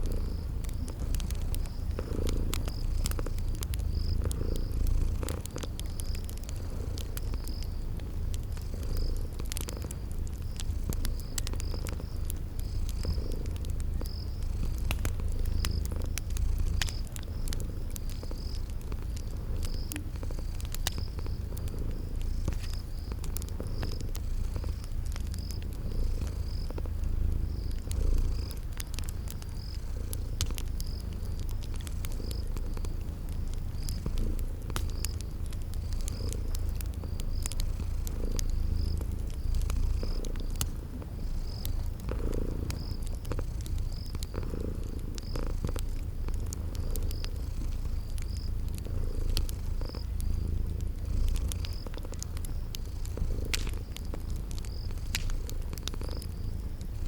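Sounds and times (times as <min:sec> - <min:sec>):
cat purring: 0:00.0 - 0:57.0
crickets chirping: 0:00.0 - 0:57.0
wood fire crackling: 0:00.0 - 0:57.0.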